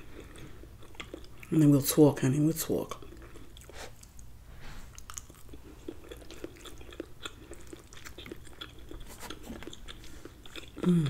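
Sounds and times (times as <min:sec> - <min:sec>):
person chewing food: 0:00.0 - 0:01.6, 0:02.9 - 0:11.0.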